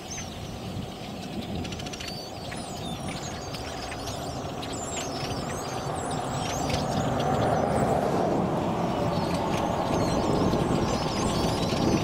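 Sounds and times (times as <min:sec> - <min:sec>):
flock of blackbirds chattering: 0:00.0 - 0:12.0.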